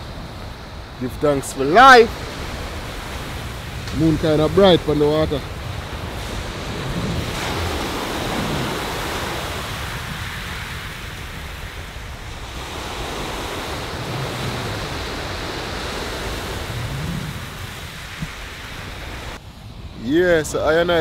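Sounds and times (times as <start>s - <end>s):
sea surf washing onto shore: 0.0s - 21.0s
wind rumbling on microphone: 0.0s - 21.0s.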